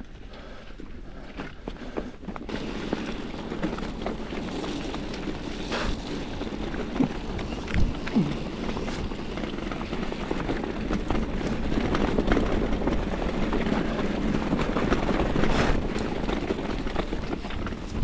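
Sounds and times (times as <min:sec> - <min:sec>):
bike tyres rolling over muddy track: 0:00.0 - 0:18.0.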